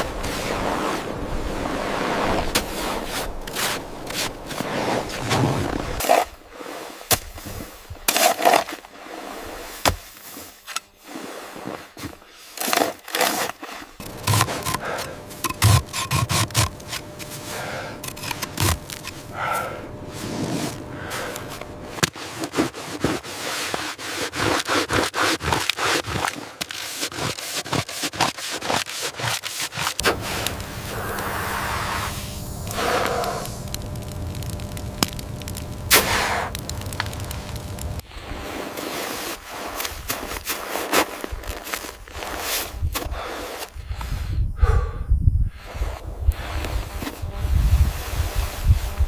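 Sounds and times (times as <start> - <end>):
scraping strokes: 0.0 - 43.7.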